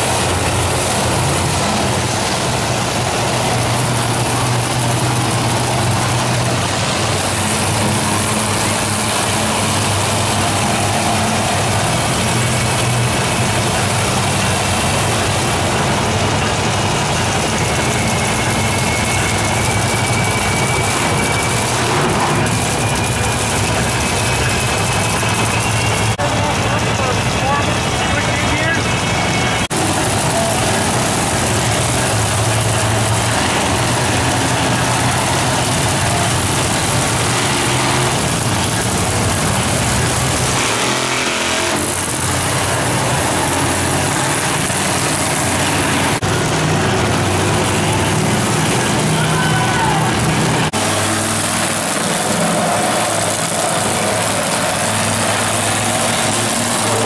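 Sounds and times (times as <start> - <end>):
truck engines idling: 0.0 - 57.0.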